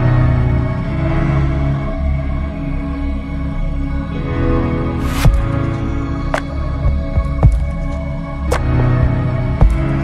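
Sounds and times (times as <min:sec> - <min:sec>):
music with held chords: 0:00.0 - 0:10.0.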